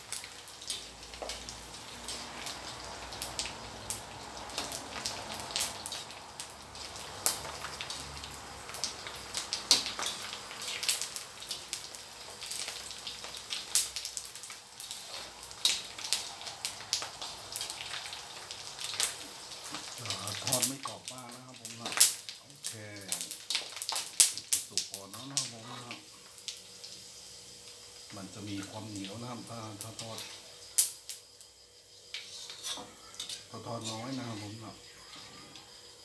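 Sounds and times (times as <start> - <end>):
oil popping and crackling: 0.0 - 31.4, 32.0 - 34.8
squid sizzling in hot oil: 0.0 - 36.0.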